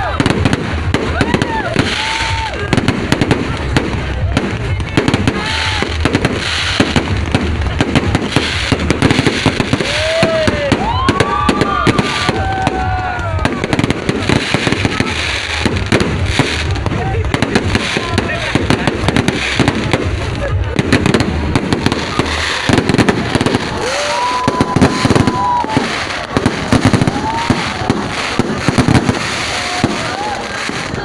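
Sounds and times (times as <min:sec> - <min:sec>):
fireworks bangs and crackles: 0:00.0 - 0:31.0
fireworks whistling: 0:00.0 - 0:31.0.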